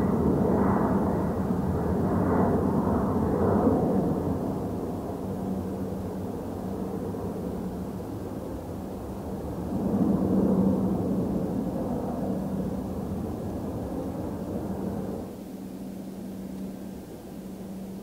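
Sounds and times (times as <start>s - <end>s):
jet engines rumbling: 0.0s - 18.0s
low hum: 0.0s - 18.0s.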